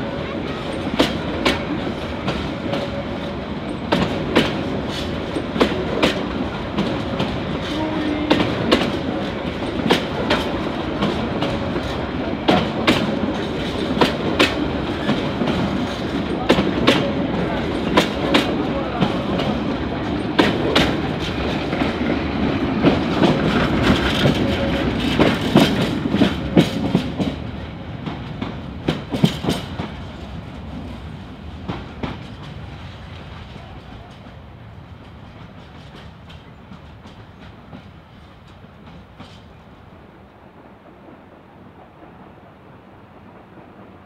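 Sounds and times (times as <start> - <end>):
train wheels clicking over rail joints: 0.0 - 39.8
faint train rumble: 0.0 - 44.0.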